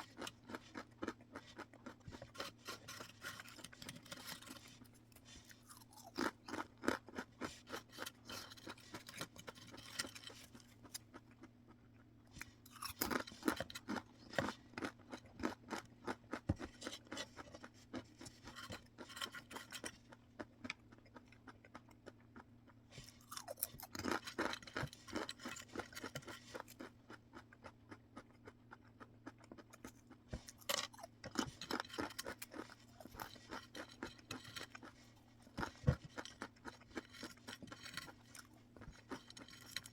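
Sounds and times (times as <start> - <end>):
crunchy snacks being chewed: 0.0 - 39.9.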